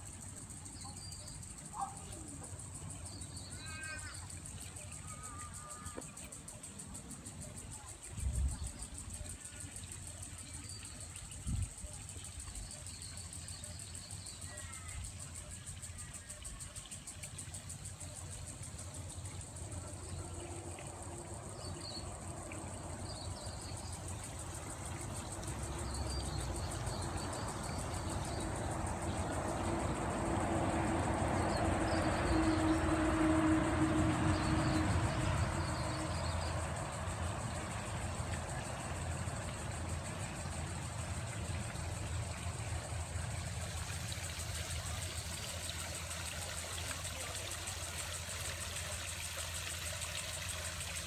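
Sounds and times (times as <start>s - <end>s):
high insect trill: 0.0s - 51.0s.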